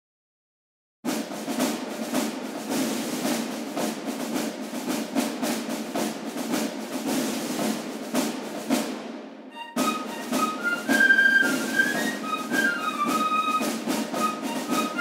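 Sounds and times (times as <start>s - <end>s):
background music with noisy drums: 1.1s - 15.0s.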